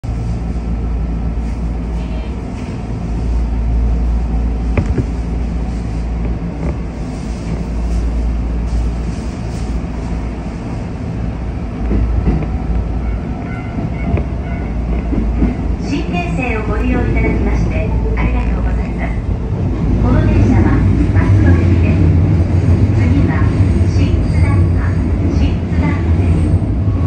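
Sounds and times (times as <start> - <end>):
electric train rumble: 0.0 - 27.0.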